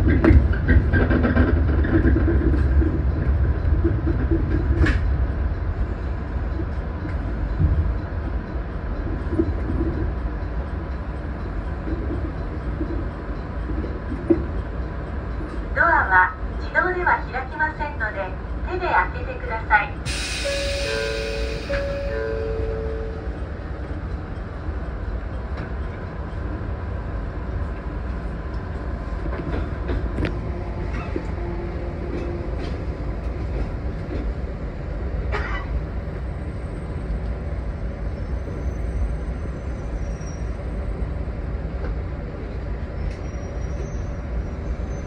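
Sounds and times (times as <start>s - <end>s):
train wheels rumbling: 0.0s - 45.0s.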